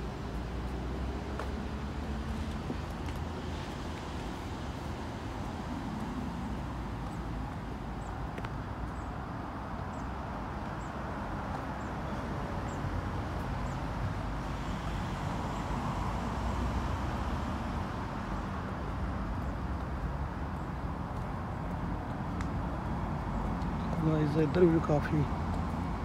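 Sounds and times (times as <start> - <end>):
distant traffic hum: 0.0 - 26.0.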